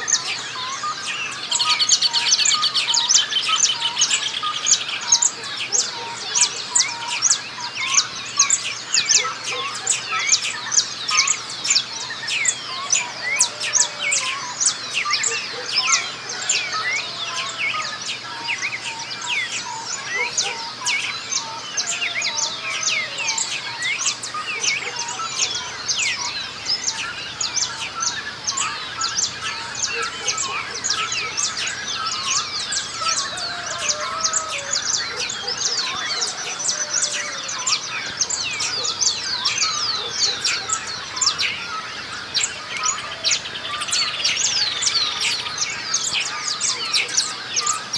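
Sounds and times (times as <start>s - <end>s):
birds singing and chirping: 0.0s - 47.9s.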